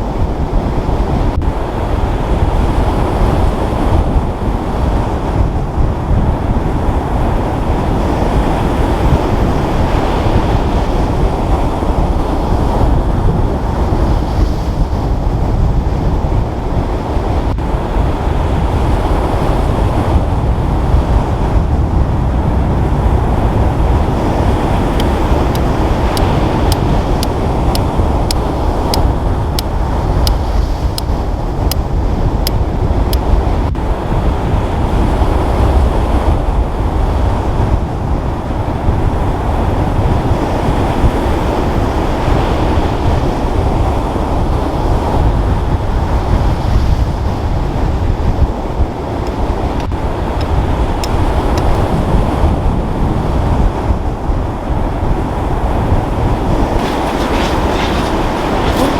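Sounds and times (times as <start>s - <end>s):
rush of wind and water: 0.0s - 58.9s.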